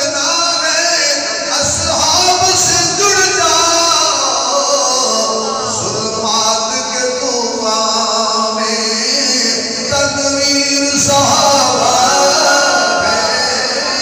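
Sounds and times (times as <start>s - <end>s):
man singing slowly: 0.0s - 14.0s.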